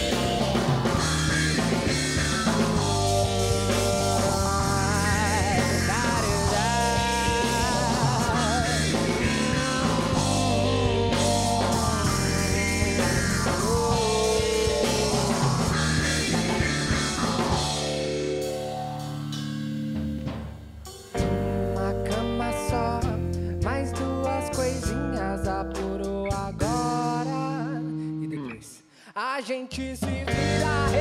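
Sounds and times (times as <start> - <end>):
instrumental rock band playing: 0.0 - 28.2, 30.2 - 31.0.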